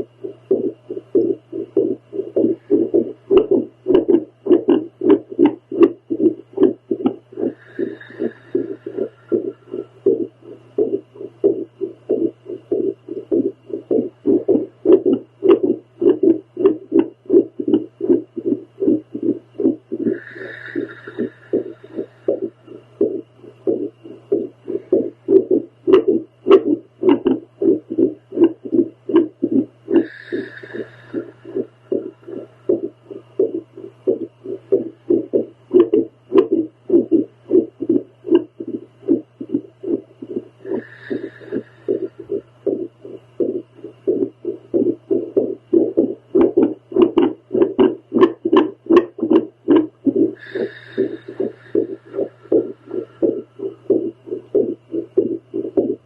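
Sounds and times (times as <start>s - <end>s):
low device hum: 0.0s - 56.0s
whooshing heartbeat pulses: 0.0s - 56.0s.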